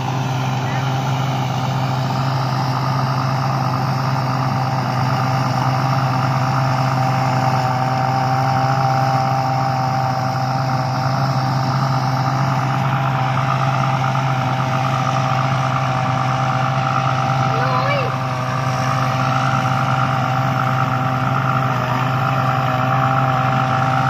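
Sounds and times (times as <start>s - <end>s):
combine harvester engine drone: 0.0s - 24.0s
threshing machinery whine: 0.0s - 24.0s.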